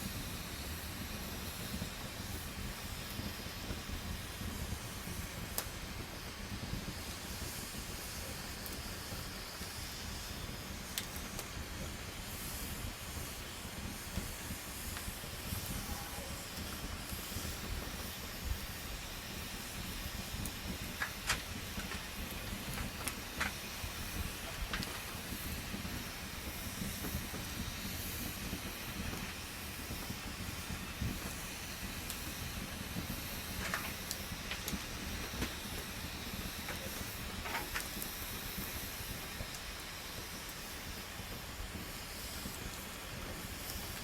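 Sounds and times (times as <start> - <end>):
campfire crackling and popping: 0.0 - 44.0.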